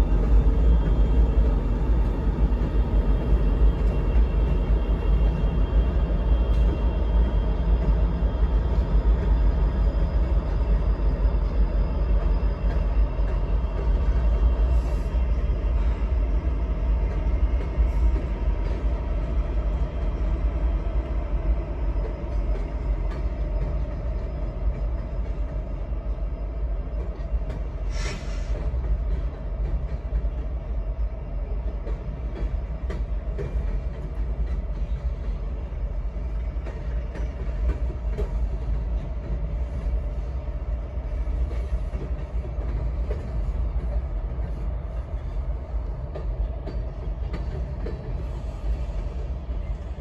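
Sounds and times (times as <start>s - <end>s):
freight train rumbling past: 0.0s - 50.0s.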